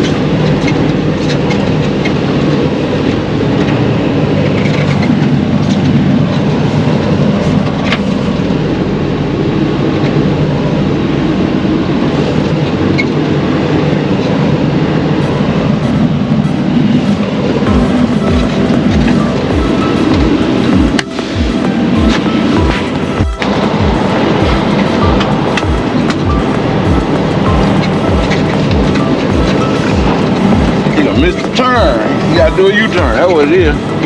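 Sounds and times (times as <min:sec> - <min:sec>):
engine low drone: 0:00.0 - 0:34.0.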